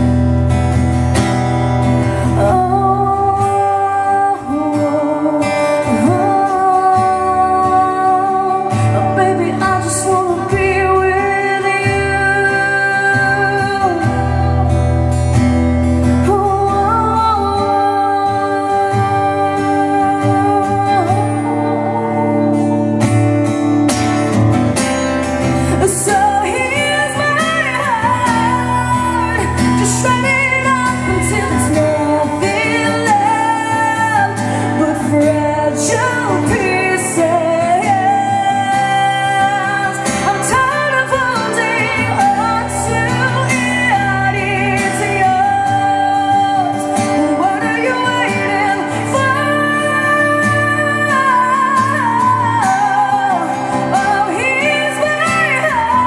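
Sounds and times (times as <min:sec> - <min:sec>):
strummed acoustic guitar: 0:00.0 - 0:56.0
woman singing a ballad: 0:00.0 - 0:56.0.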